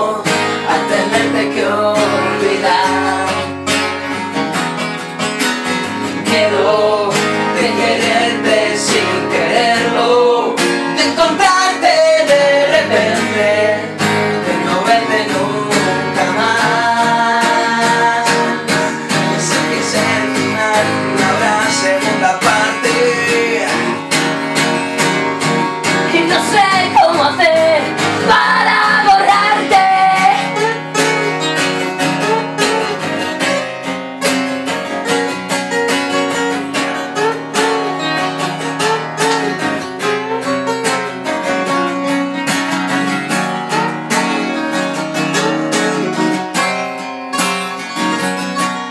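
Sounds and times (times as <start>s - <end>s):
acoustic guitars strumming: 0.0s - 48.9s.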